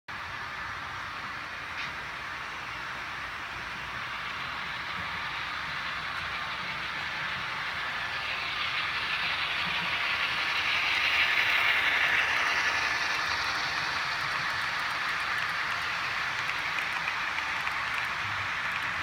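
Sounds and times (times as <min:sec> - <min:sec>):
model train running: 0:00.1 - 0:19.0.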